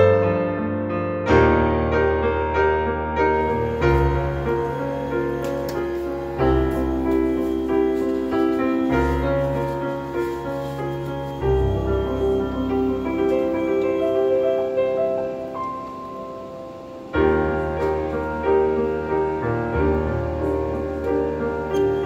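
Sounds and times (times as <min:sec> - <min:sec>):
piano-led background music: 0:00.0 - 0:22.0.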